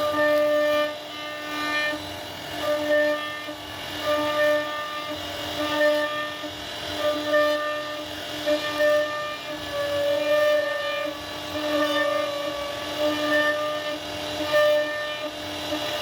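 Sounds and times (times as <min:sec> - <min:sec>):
router spindle whining carving wood: 0:00.0 - 0:16.0.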